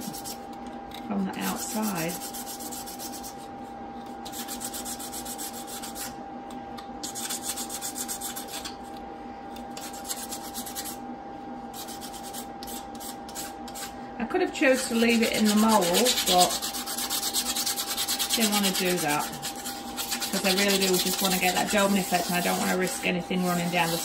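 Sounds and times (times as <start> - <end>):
hand sanding resin: 0.0 - 0.5, 1.1 - 3.5, 4.2 - 6.2, 7.0 - 8.8, 9.7 - 11.0, 11.7 - 24.0.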